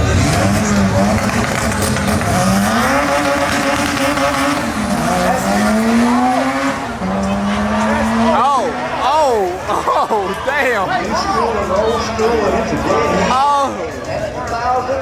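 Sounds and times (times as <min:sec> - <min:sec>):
race car engine accelerating: 0:00.0 - 0:13.5.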